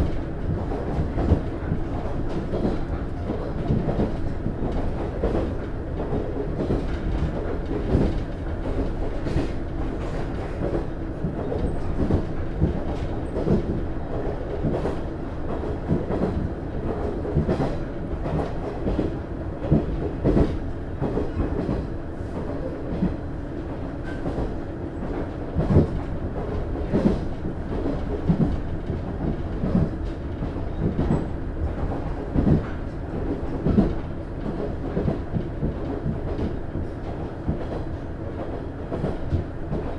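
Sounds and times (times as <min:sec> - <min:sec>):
train engine and wheels rumbling: 0:00.0 - 0:39.9.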